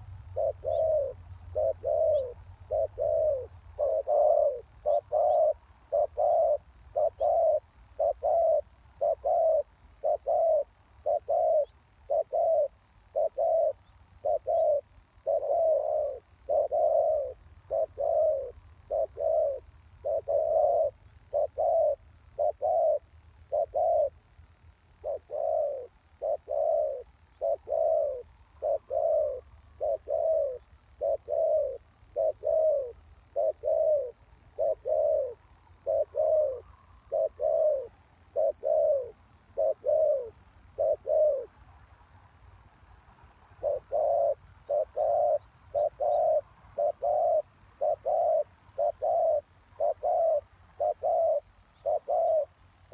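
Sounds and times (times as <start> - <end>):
dove cooing: 0.0 - 41.6, 43.6 - 52.9.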